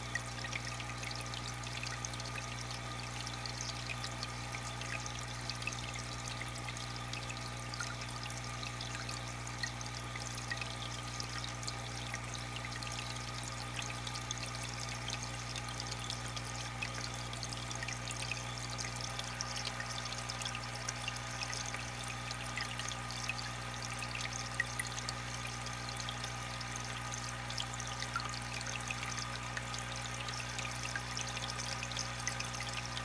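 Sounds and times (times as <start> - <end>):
drips and bubble pops: 0.0 - 33.0
water trickling and pouring: 0.0 - 33.0.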